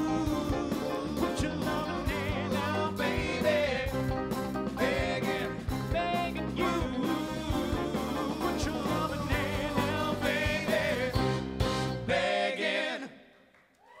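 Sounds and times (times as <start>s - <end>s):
male voices singing harmony: 0.0s - 11.4s, 12.0s - 13.2s
bass guitar: 0.0s - 12.2s
drums: 0.0s - 12.8s.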